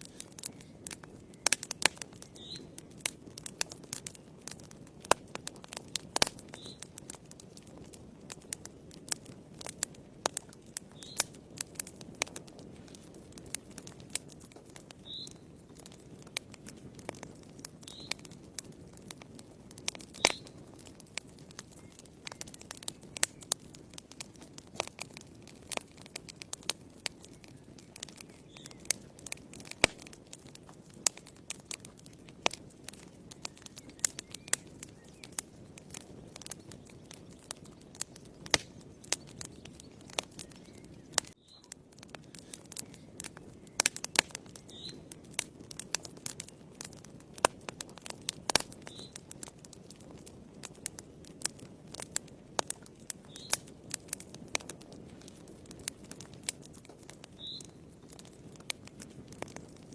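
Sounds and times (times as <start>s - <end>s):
low rustle of flames: 0.0s - 59.9s
wood fire crackling and popping: 0.0s - 59.9s.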